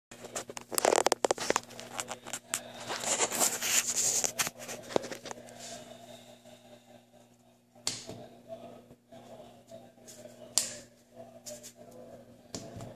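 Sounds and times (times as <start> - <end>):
faint steady hum: 0.2 - 12.9.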